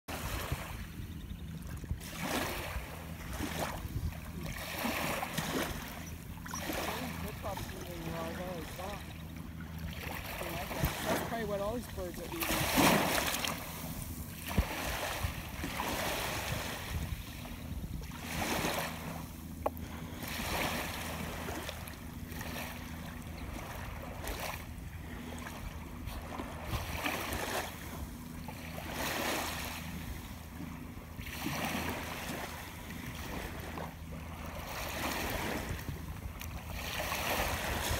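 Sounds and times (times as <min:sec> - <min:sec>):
small waves lapping on beach: 0:00.1 - 0:37.9.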